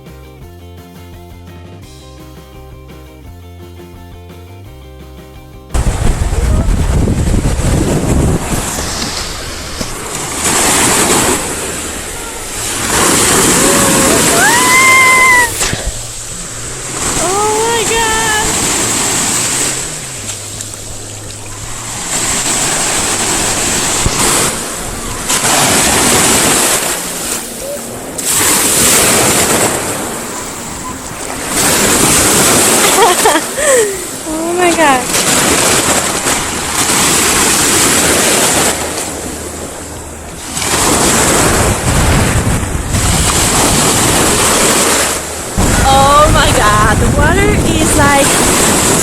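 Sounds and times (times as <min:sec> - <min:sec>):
sea waves washing onto beach: 0:05.7 - 0:49.0
wind buffeting microphone: 0:05.7 - 0:49.0.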